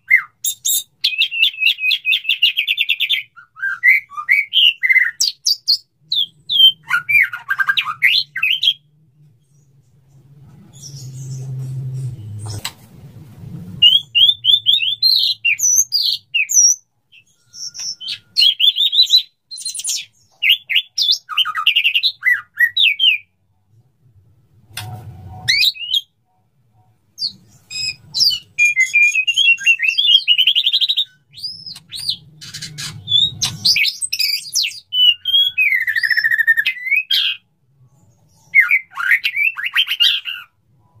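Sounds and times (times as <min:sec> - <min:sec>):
bird singing whistles and trills: 0:00.0 - 0:08.9, 0:10.7 - 0:12.4, 0:13.8 - 0:23.3, 0:25.4 - 0:26.2, 0:27.2 - 0:37.5, 0:38.3 - 0:40.5.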